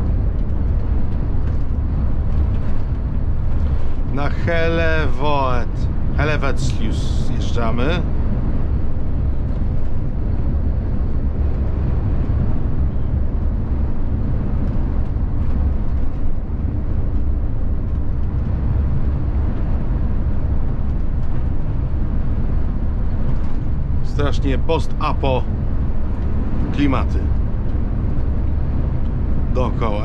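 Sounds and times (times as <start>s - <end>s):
coach road and engine noise: 0.0s - 30.0s.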